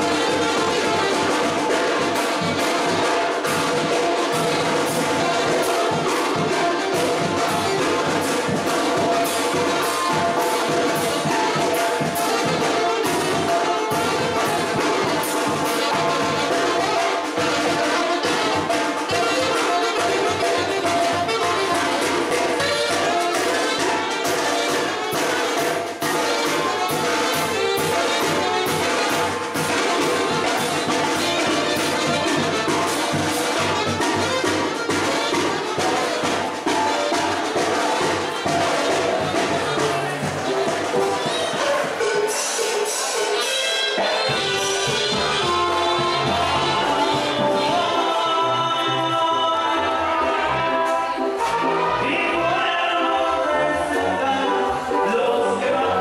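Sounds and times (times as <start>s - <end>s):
drum and cymbal beat: 0.0s - 48.3s
brass band playing: 0.0s - 56.0s.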